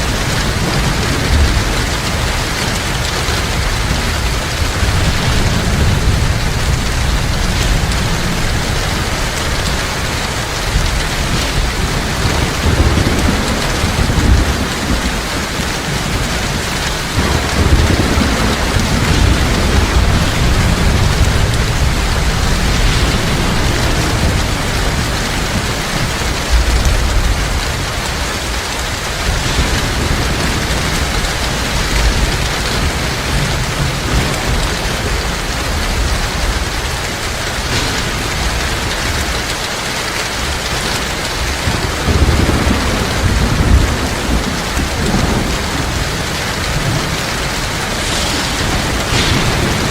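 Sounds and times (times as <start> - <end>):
heavy rain: 0.0 - 49.9
rolling thunder: 0.0 - 49.9.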